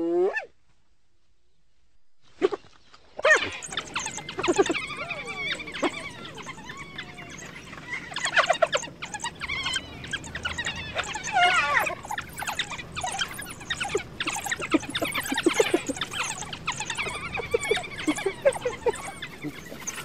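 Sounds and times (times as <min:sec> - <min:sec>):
wild dogs squealing and chirping: 0:02.3 - 0:20.0.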